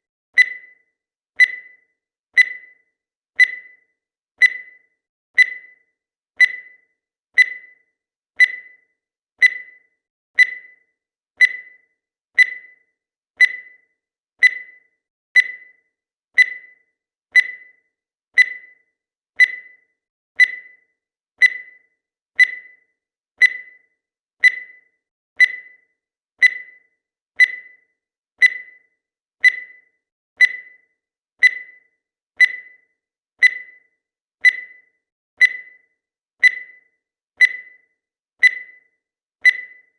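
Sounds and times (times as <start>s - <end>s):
countdown timer beeping: 0.4s - 0.8s, 1.4s - 10.8s, 11.4s - 15.8s, 16.4s - 39.9s.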